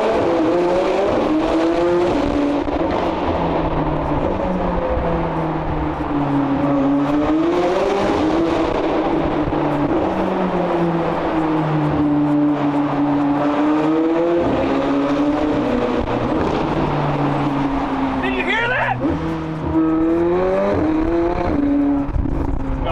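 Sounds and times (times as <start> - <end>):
sports car engine running: 0.0 - 22.9.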